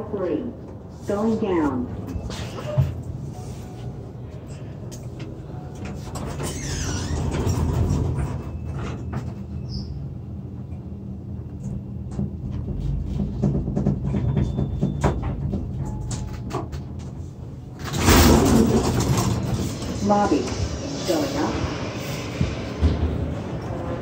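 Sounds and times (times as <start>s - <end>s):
elevator hum and rumble: 0.0s - 24.0s.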